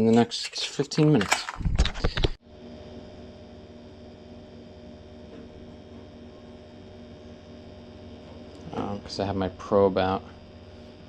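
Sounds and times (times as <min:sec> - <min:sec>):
gas boiler humming: 0:00.0 - 0:11.0.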